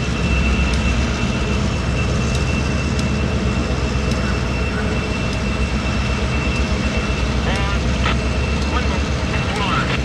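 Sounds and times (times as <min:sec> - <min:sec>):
locomotive engine rumble: 0:00.0 - 0:10.0.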